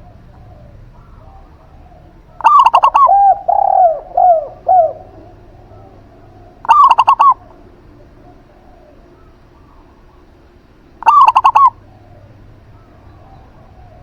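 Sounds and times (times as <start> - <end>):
short high dove coos: 0.0 - 10.3, 11.0 - 14.0
low long dove coos: 0.0 - 14.0.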